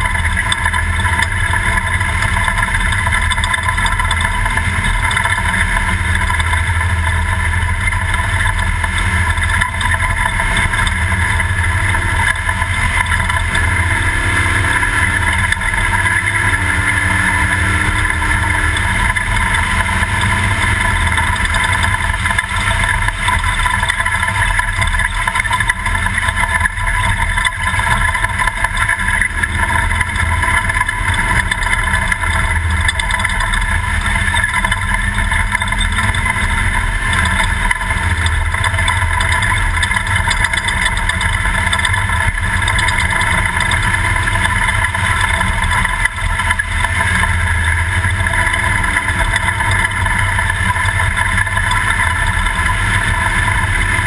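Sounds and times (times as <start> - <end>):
truck engine running: 0.0 - 54.0
truck moving over rough terrain: 0.0 - 54.0.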